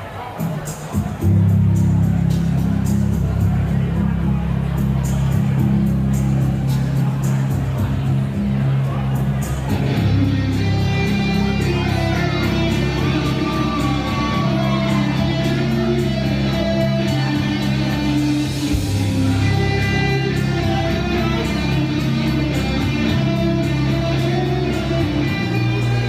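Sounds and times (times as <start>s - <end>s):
live rock band playing: 0.6s - 26.0s
electric guitar: 1.0s - 26.0s.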